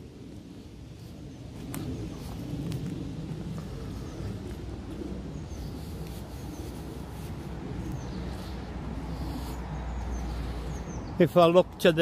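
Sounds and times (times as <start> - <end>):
low steady rumble: 0.0 - 11.1
footsteps on muddy path: 0.9 - 12.0.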